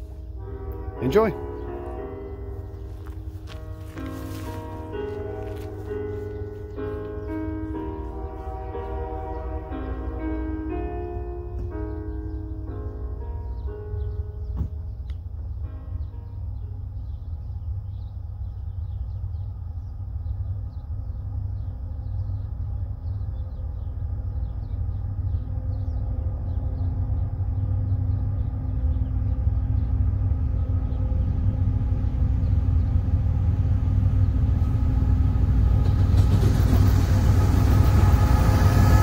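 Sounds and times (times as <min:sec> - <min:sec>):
diesel locomotive engine roar: 0:00.0 - 0:39.0.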